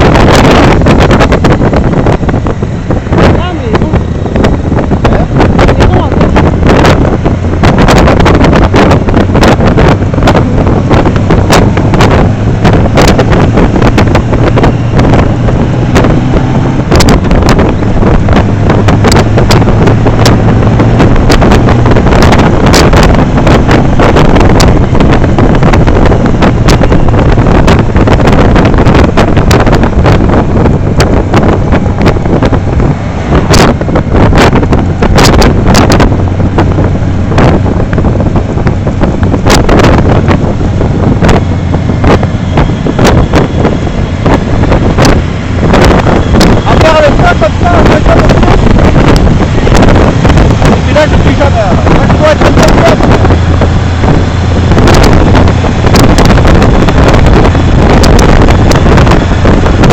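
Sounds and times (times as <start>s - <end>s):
motorcycle engine drone: 0.0s - 59.9s
road noise: 0.0s - 59.9s
wind buffeting microphone: 0.0s - 59.9s.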